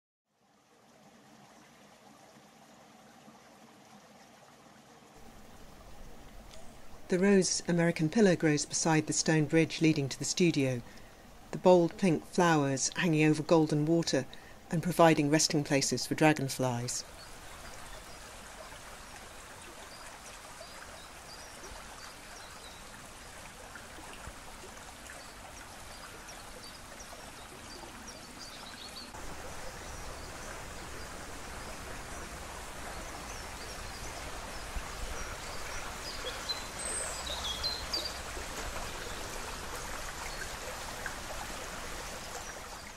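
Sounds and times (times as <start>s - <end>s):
river water flowing: 0.3s - 42.9s.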